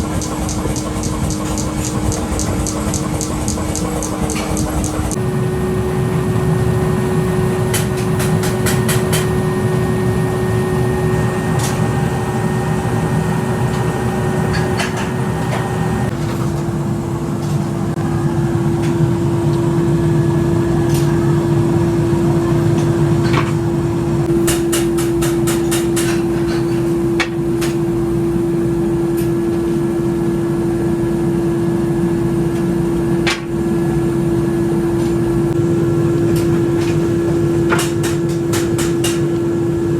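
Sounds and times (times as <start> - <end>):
workshop machine humming: 0.0 - 39.9.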